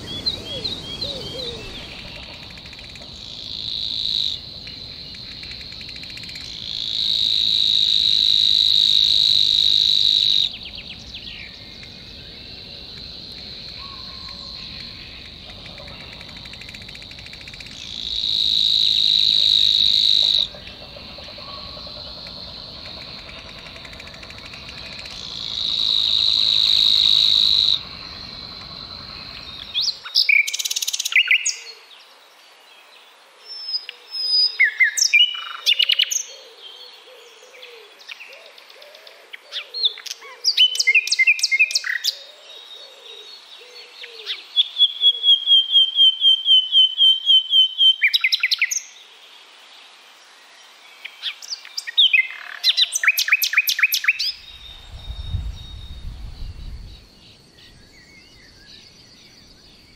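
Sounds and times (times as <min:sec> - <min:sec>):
nightingale singing: 0:00.0 - 0:31.9, 0:33.5 - 0:49.0, 0:50.9 - 0:59.9.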